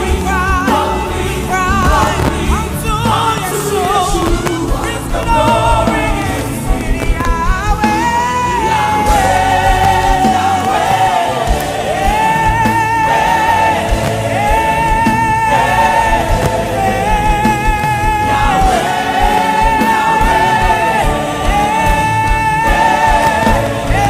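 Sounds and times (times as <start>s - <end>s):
band playing steady beat: 0.0s - 24.0s
person singing long notes: 0.0s - 24.0s.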